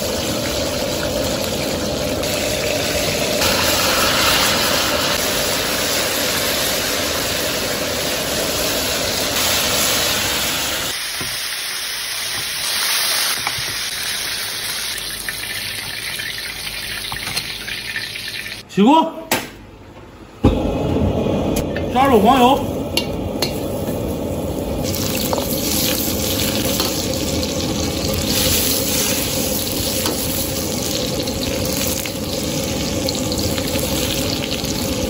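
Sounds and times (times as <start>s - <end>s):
oil sizzling in a wok: 0.0s - 18.6s, 22.7s - 35.0s.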